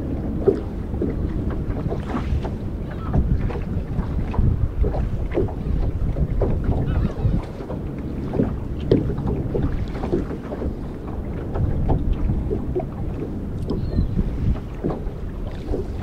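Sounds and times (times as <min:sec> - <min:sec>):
water slapping against boat hull: 0:00.0 - 0:16.0
wind rumble on microphone: 0:00.0 - 0:16.0.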